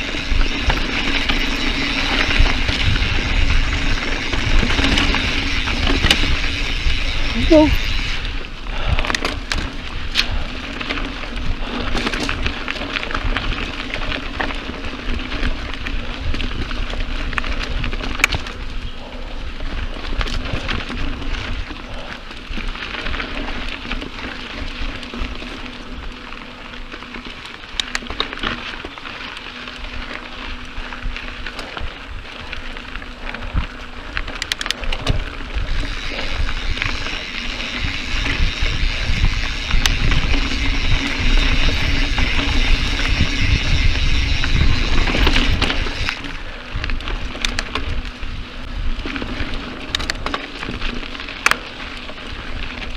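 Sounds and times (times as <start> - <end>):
small clicks and rattles: 0.0 - 48.2, 49.0 - 52.9
bike tyres crackling on gravel: 0.0 - 52.9.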